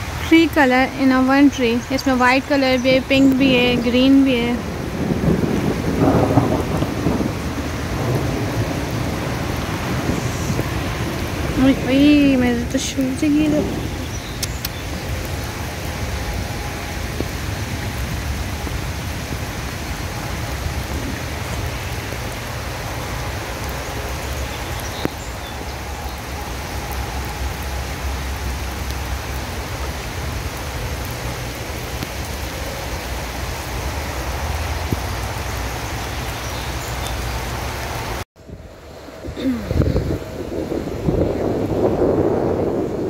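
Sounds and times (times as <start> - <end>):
rain on pavement: 0.0 - 43.0.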